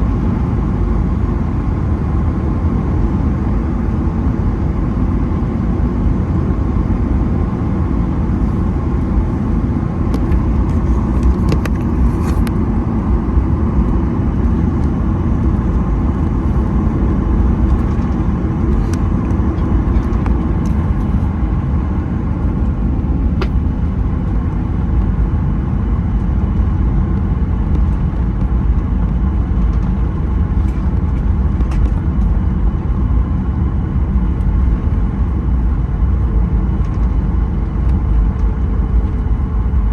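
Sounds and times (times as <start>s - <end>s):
aircraft cabin rumble: 0.0s - 39.9s.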